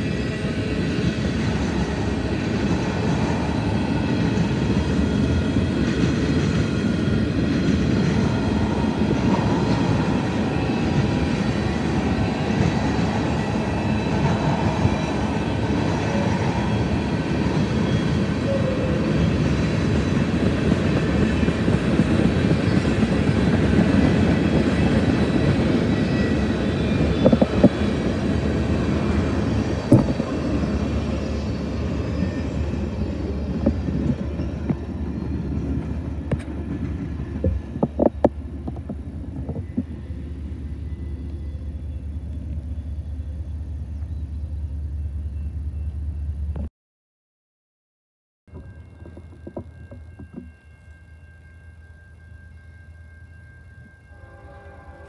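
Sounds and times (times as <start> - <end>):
train cars clanking: 0.0 - 44.3, 48.5 - 51.6
freight train wheels rumbling: 0.0 - 46.7, 48.5 - 55.0.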